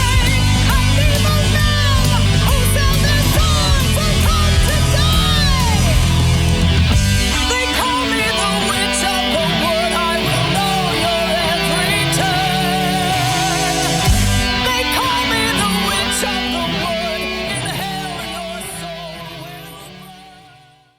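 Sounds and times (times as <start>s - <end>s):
heavy rock music with guitar: 0.0s - 20.8s.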